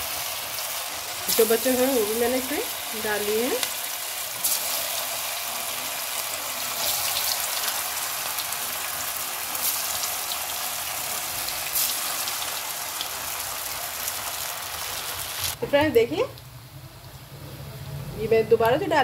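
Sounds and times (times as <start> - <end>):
fritters sizzling in hot oil: 0.0 - 19.0.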